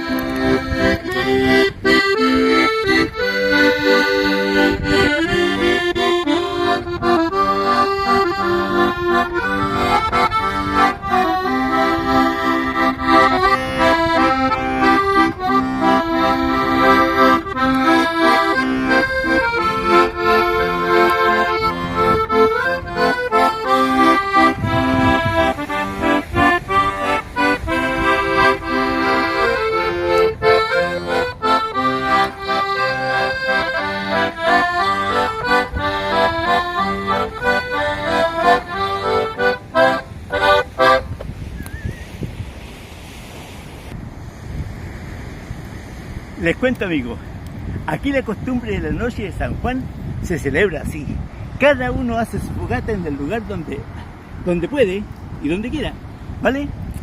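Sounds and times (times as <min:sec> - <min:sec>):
accordion playing a tune: 0:00.0 - 0:41.9, 0:51.7 - 0:56.6.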